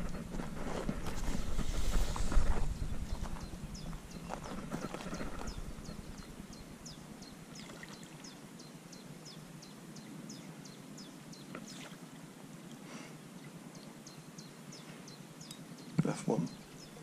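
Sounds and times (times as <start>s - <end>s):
bird chirping: 1.2s - 12.0s, 13.7s - 17.0s.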